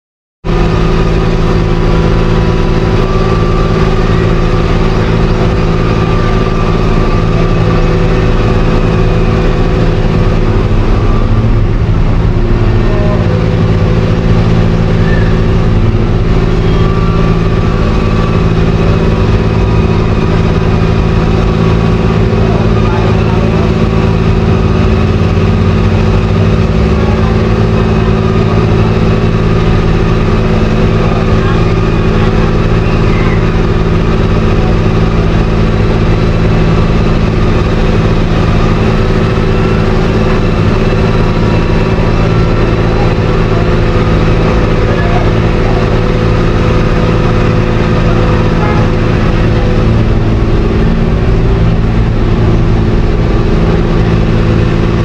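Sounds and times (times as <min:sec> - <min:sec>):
mechanical hum of engines: 0:00.4 - 0:55.0.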